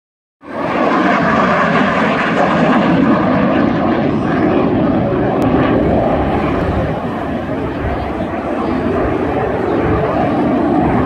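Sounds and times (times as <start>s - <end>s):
jet roaring past: 0.4s - 11.0s.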